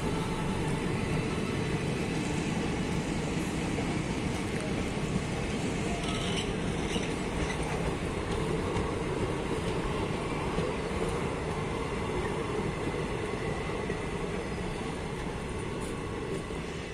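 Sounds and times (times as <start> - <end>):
train passing close by: 0.0 - 16.9
train wheels on rails: 0.0 - 16.9.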